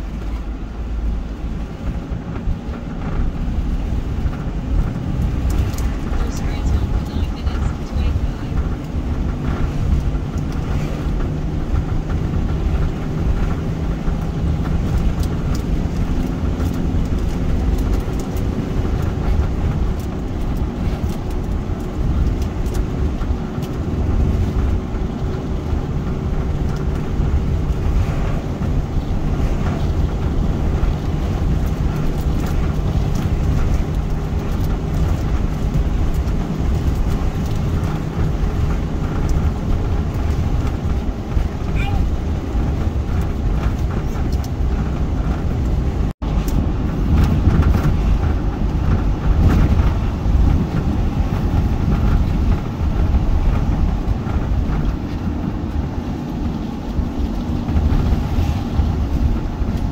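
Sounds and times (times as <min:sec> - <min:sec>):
car engine hum: 0:00.0 - 0:59.9
tyres rumbling on road: 0:00.0 - 0:59.9.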